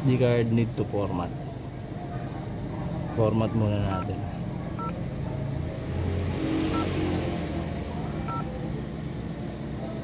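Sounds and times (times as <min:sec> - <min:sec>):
car engine hum: 0:00.0 - 0:10.0.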